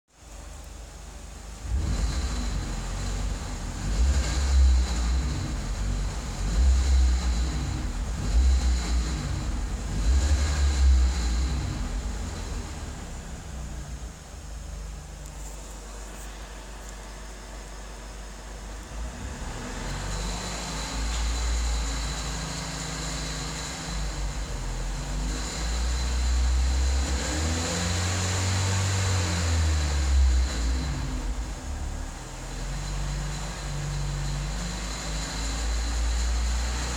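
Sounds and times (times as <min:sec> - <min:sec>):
car engine rumbling: 0:00.2 - 0:36.9
engine hiss: 0:00.2 - 0:36.9.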